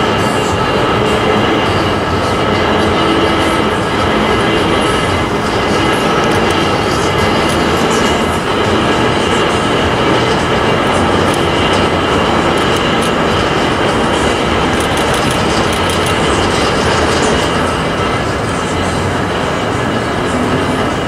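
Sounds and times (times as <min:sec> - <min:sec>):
drawbridge mechanical rumble: 0:00.0 - 0:21.0.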